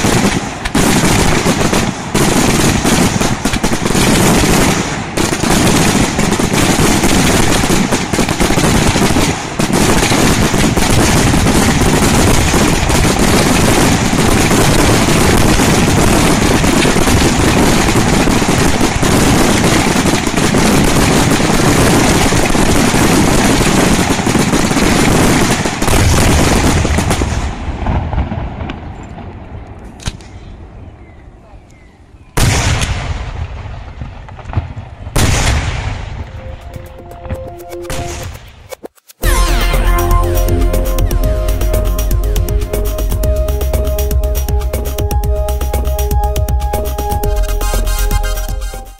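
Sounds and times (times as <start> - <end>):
fireworks bursting and crackling: 0.0 - 29.5, 32.4 - 48.9
fireworks rumble: 0.0 - 30.1, 32.4 - 48.9.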